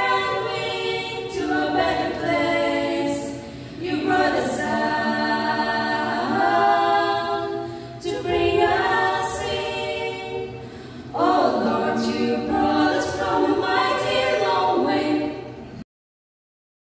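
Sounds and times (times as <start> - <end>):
women singing a cappella: 0.0 - 15.8.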